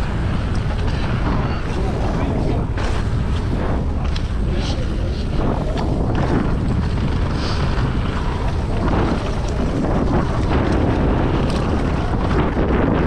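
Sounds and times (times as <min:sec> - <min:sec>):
bike rattling on trail: 0:00.0 - 0:13.0
tyre rumble: 0:00.0 - 0:13.0
wind buffeting microphone: 0:00.0 - 0:13.0.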